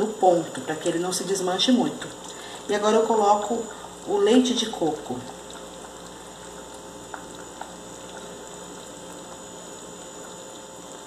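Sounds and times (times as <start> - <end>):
stew bubbling and sizzling: 0.0 - 11.0.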